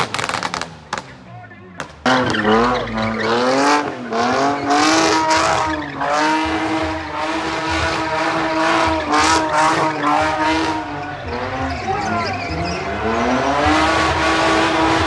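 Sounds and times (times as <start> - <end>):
car engine at high revs: 1.8 - 15.0
tyres squealing: 2.1 - 15.0.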